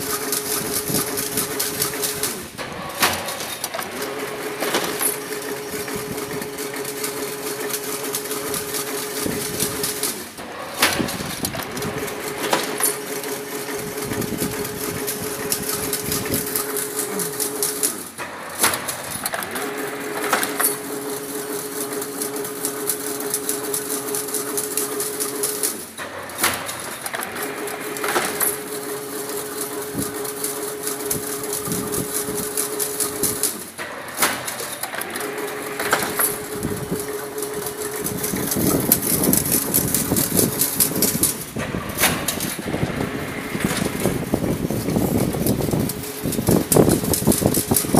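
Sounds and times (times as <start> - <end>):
sharp machine knock: 0.0 - 21.0, 26.0 - 28.6, 31.8 - 47.9
weaving machine motor hum and clatter: 0.0 - 47.9.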